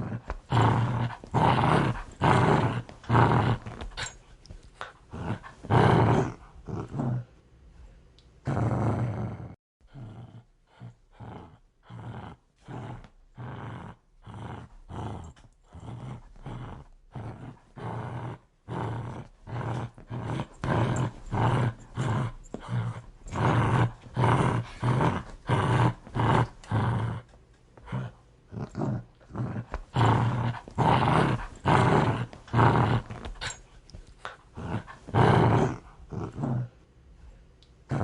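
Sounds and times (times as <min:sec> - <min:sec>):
dog growling aggressively: 0:00.0 - 0:04.2, 0:04.8 - 0:07.3, 0:08.4 - 0:33.6, 0:34.2 - 0:36.8.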